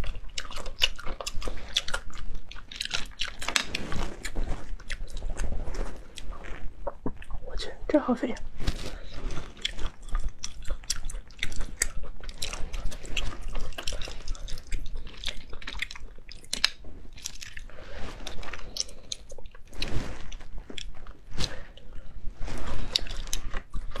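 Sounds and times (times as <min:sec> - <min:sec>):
wet chewing and sucking: 0:00.0 - 0:07.8, 0:08.4 - 0:24.0.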